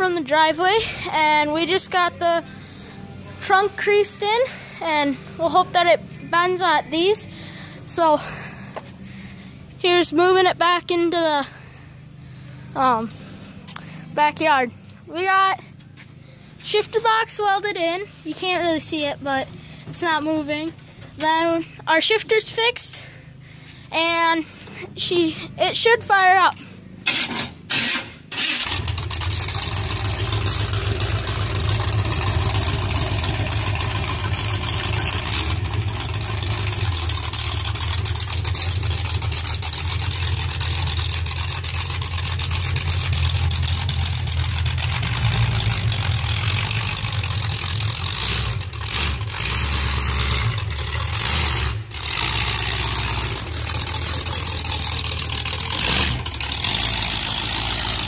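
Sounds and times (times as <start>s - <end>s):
car engine starting and running: 0.0s - 58.0s.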